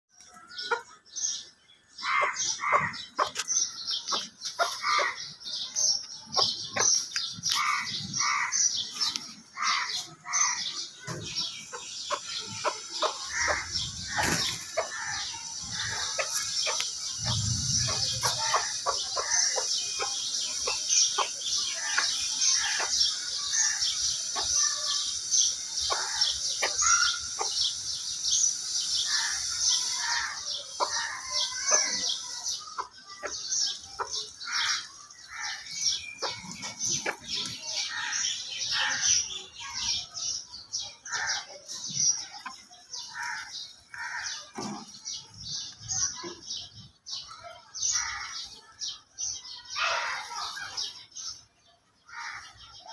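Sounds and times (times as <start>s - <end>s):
chickens chirping: 0.1s - 52.9s
chickens clucking: 0.2s - 47.4s.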